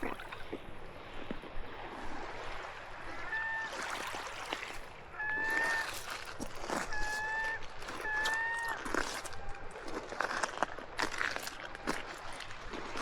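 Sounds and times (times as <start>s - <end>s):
shoreline water: 0.0s - 13.0s.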